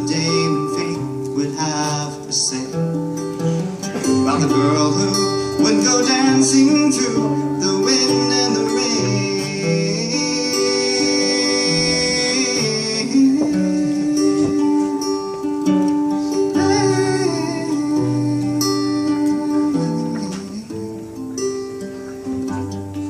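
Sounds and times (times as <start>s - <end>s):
person wordless singing: 0.0s - 3.0s, 4.0s - 21.5s
acoustic guitar playing: 0.0s - 23.0s.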